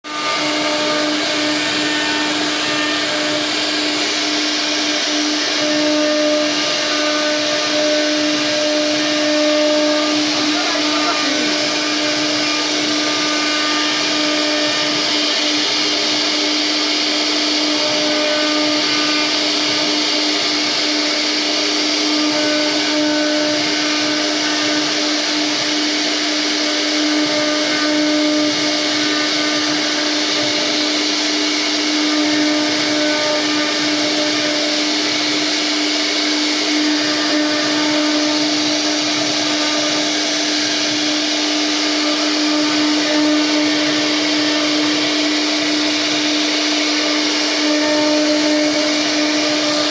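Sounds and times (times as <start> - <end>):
router spindle whining: 0.0 - 49.9.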